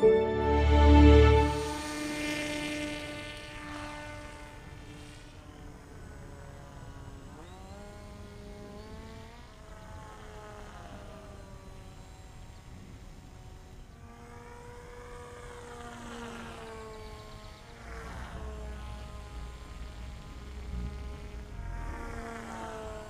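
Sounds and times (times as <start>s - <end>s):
model glider motor buzzing: 1.7s - 23.0s.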